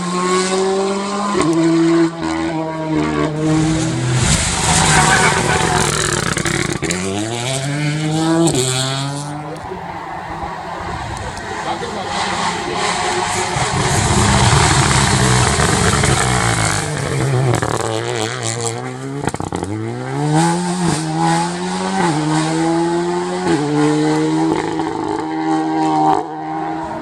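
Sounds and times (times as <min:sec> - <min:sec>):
rally car accelerating through gears: 0:00.0 - 0:27.0
rally car passing at full throttle: 0:00.0 - 0:27.0.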